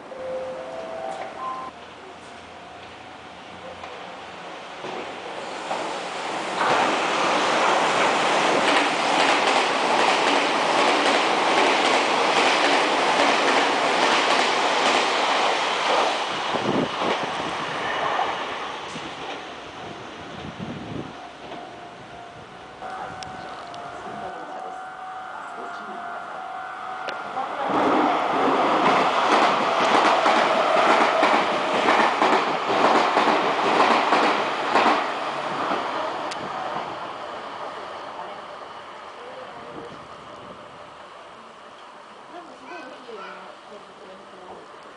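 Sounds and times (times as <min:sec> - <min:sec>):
electric train passing: 0:00.0 - 0:44.9.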